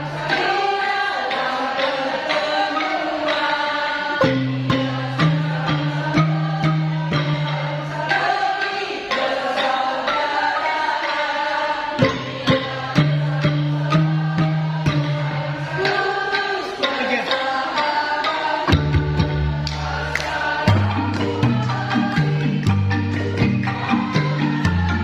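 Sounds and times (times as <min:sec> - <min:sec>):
women's choir singing: 0:00.0 - 0:25.0
wooden xylophones: 0:00.0 - 0:25.0.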